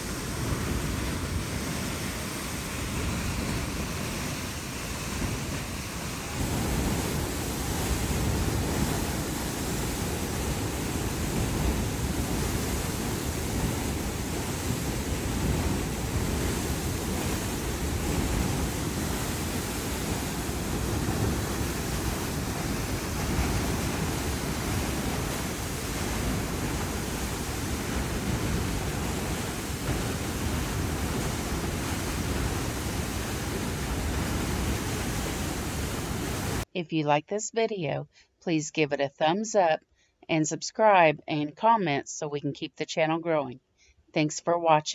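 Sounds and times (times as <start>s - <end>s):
wind blowing across microphone: 0.0s - 36.7s.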